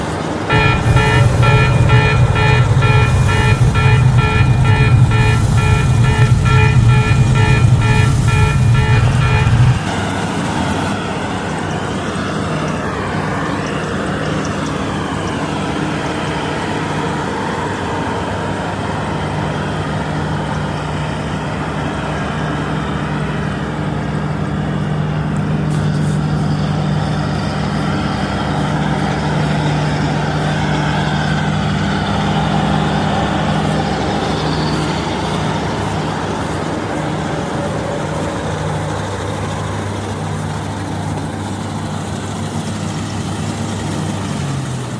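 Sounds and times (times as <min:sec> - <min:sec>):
combine harvester engine droning: 0:00.0 - 0:44.9.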